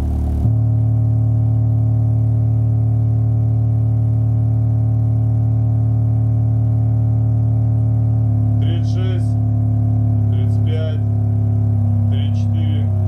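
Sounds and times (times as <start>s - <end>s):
subwoofer low test tone: 0.0s - 13.0s.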